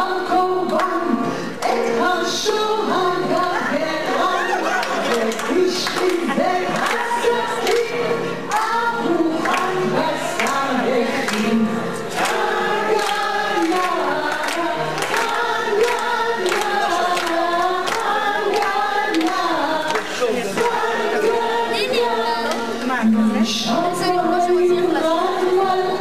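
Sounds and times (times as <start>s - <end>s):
group of voices singing: 0.0s - 26.0s.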